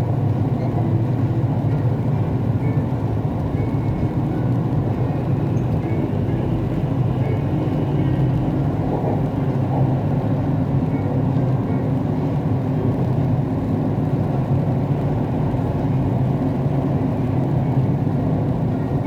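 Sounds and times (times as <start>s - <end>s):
metro train rolling rumble: 0.0s - 19.0s.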